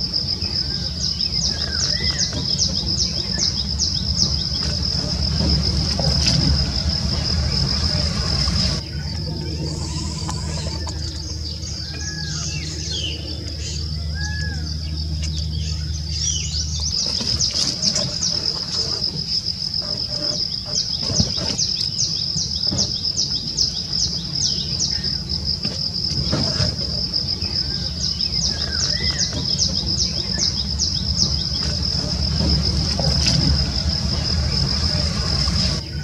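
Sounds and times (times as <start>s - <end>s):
high-pitched insect drone: 0.0s - 21.6s, 22.4s - 36.0s.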